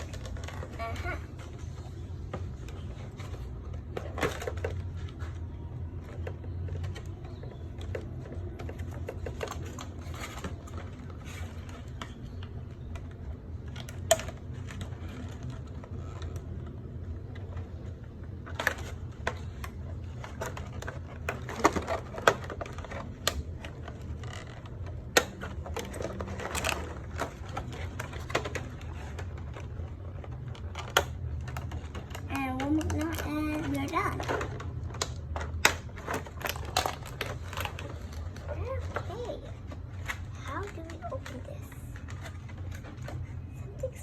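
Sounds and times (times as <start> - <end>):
plastic and cardboard rustling: 0.0 - 44.0.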